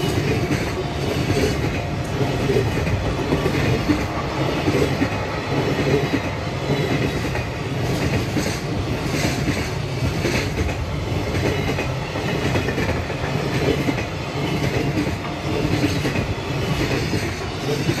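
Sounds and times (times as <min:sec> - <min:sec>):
train rumble: 0:00.0 - 0:18.0
train wheels clattering over rail joints: 0:00.0 - 0:18.0.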